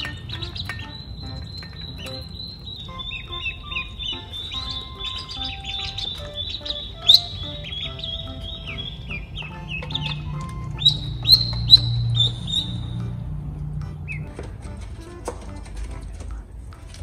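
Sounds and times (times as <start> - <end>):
ducklings peeping: 0.0 - 14.6.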